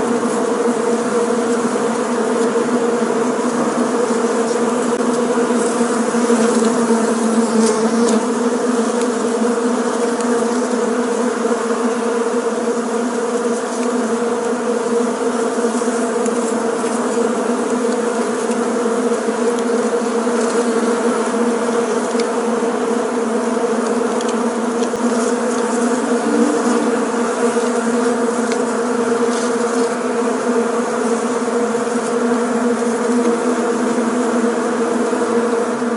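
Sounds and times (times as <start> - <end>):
bees buzzing: 0.0 - 35.9.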